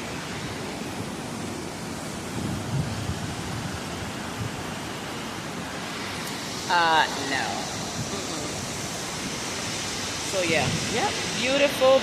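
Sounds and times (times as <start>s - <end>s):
water rushing through a dam: 0.0s - 12.0s.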